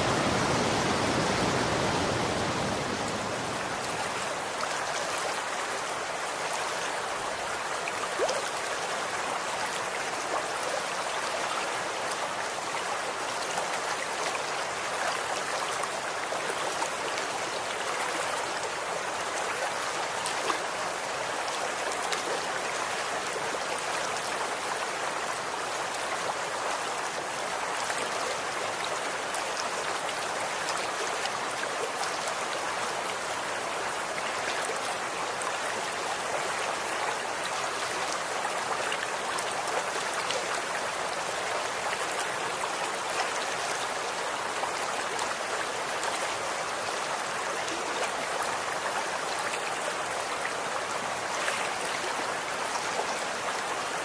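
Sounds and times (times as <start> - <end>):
water rushing over stones: 0.0 - 54.0.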